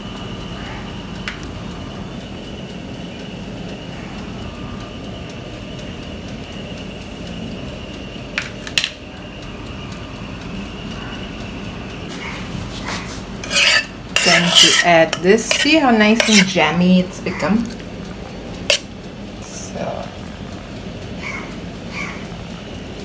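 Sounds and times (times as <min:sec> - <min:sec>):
fan humming with high whine: 0:00.0 - 0:23.0.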